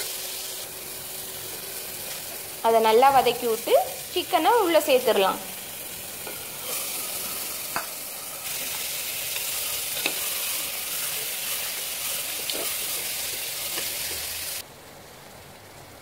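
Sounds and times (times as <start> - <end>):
chicken sizzling in a pot: 0.0 - 14.7.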